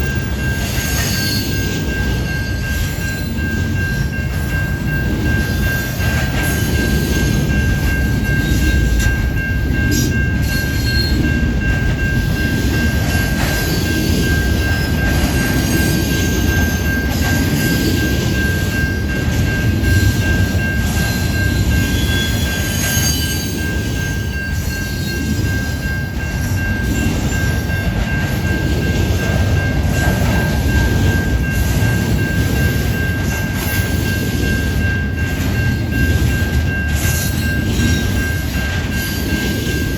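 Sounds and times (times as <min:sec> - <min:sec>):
freight train rumbling on rails: 0:00.0 - 0:39.9
steady high tone: 0:00.0 - 0:39.9
train wheel squeals: 0:00.0 - 0:39.9.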